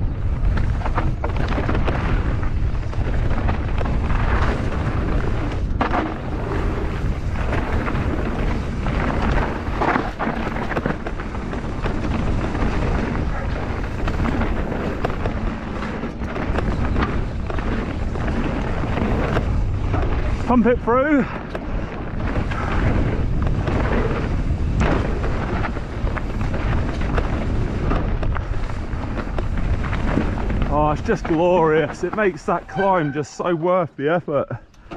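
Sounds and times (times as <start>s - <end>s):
bike knocks and rattles: 0.0s - 32.5s
tyres rumbling on stone: 0.0s - 34.9s
wind buffeting microphone: 0.0s - 34.9s.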